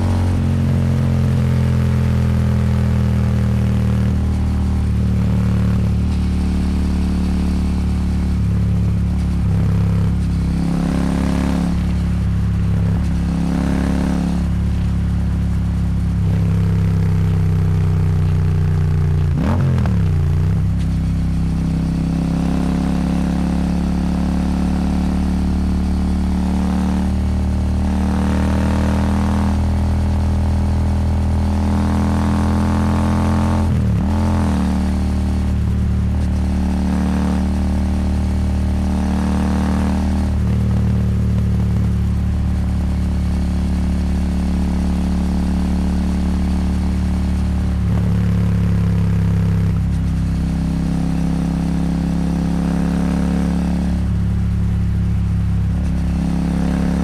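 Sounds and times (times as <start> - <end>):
motorcycle engine at highway speed: 0.0 - 57.0.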